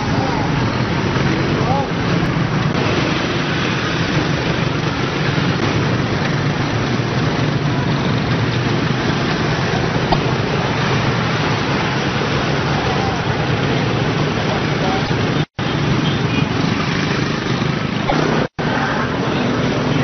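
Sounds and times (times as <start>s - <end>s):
motorbikes and cars passing: 0.0s - 20.0s.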